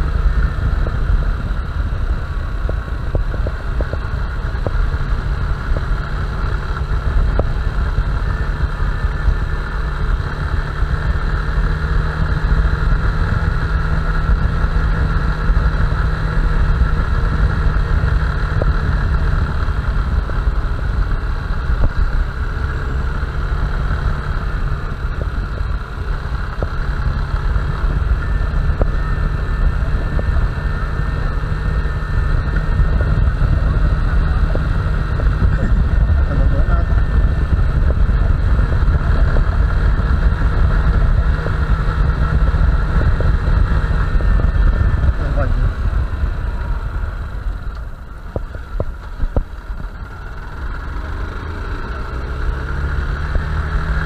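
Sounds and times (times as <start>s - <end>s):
wind rush on microphone: 0.0s - 51.2s
motorcycle engine running: 0.0s - 54.0s.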